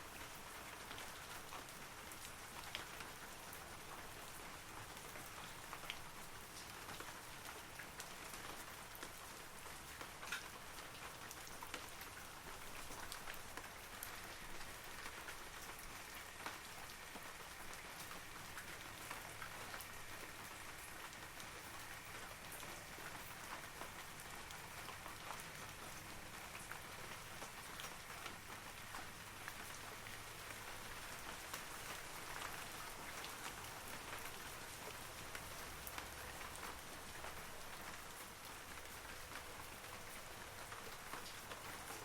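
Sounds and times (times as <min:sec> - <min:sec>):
rain on trees and foliage: 0:00.0 - 0:42.0.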